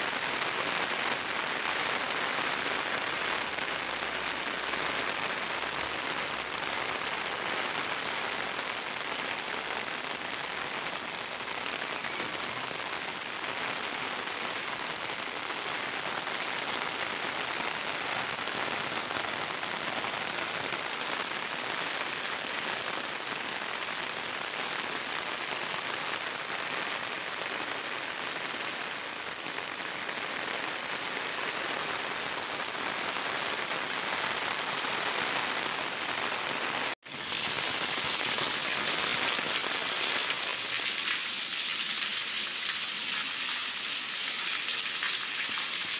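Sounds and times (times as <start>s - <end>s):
rain on concrete: 0.0s - 45.9s.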